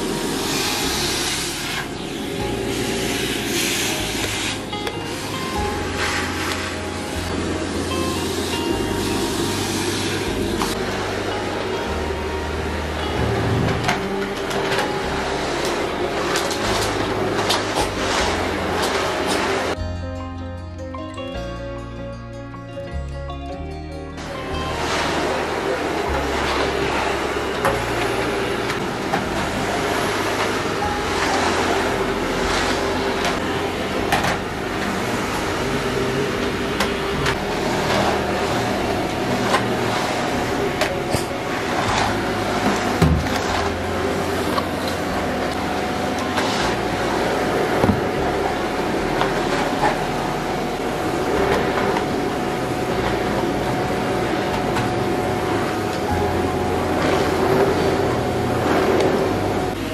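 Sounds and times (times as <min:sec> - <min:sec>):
vacuum cleaner running: 0:00.0 - 0:19.8, 0:24.2 - 0:59.9.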